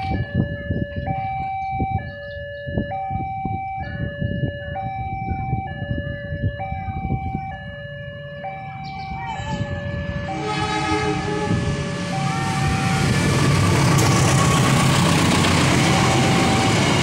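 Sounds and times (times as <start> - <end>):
level crossing two-tone alarm: 0.0 - 13.3, 15.7 - 17.0.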